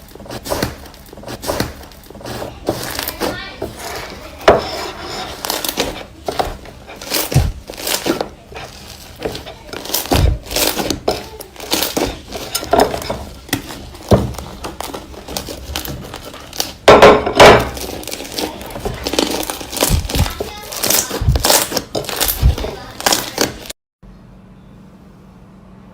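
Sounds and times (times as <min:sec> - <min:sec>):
slime crackling and squishing: 0:00.0 - 0:23.7.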